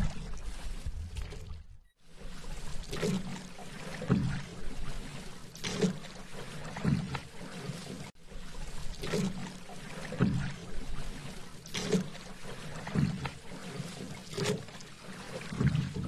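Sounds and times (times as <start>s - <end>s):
paddle strokes in water: 0.0s - 16.0s
steady wash of water: 0.0s - 16.0s.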